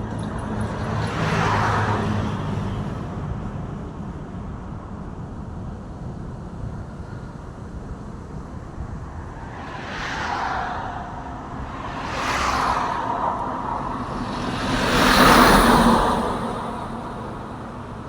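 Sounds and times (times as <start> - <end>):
vehicles passing by: 0.0 - 18.0.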